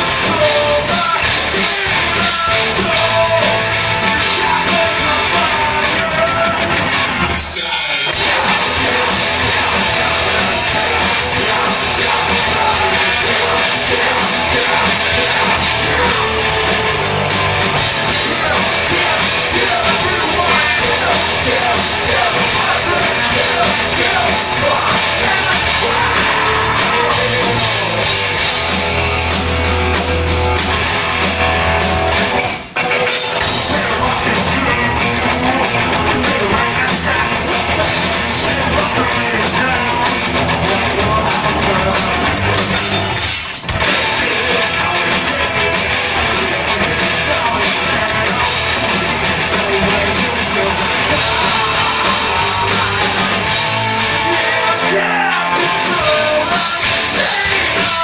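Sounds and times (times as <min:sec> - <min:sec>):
rock band playing: 0:00.0 - 0:58.0
shouted singing: 0:00.0 - 0:58.0.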